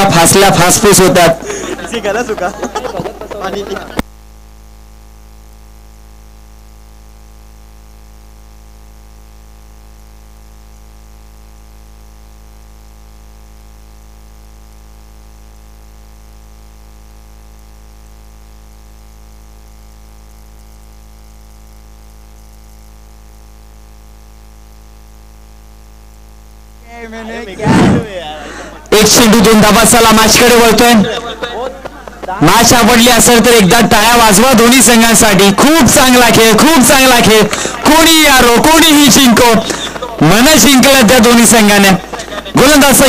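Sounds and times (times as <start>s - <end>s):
low buzzing hum: 0.0s - 43.0s.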